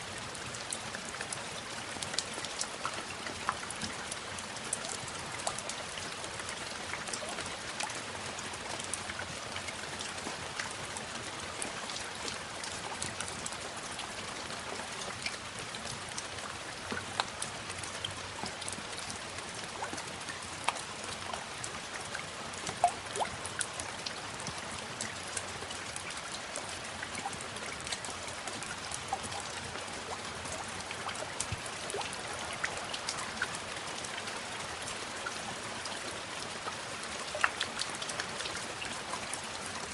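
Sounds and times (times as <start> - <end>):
raindrops ticking on hard surface: 0.0 - 39.9
steady rain: 0.0 - 39.9.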